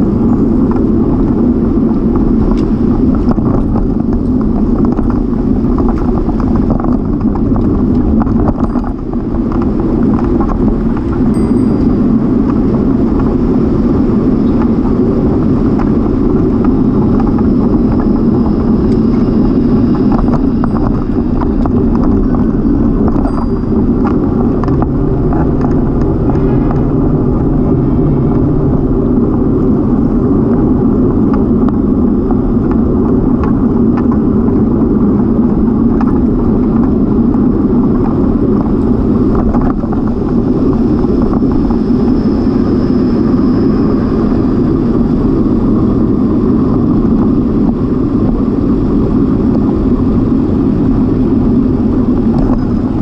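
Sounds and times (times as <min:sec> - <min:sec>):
bicycle tyre noise: 0:00.0 - 0:53.0
wind on microphone: 0:00.0 - 0:53.0.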